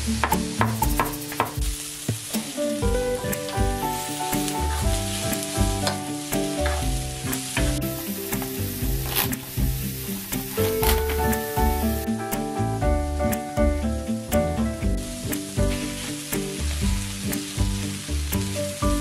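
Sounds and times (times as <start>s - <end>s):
onions sizzling in a frying pan: 0.0s - 19.0s
soft background music: 0.0s - 19.0s.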